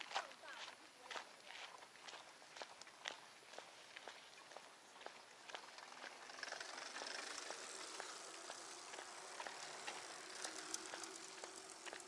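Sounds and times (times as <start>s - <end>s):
footsteps on paved path: 0.0s - 12.0s.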